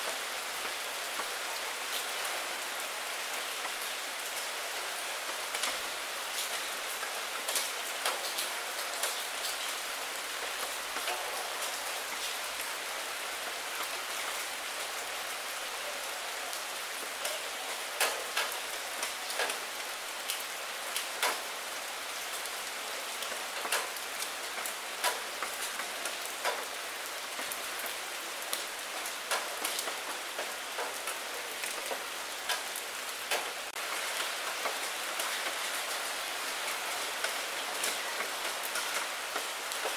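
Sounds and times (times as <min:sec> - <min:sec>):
rain on puddle and leaves: 0:00.0 - 0:39.9.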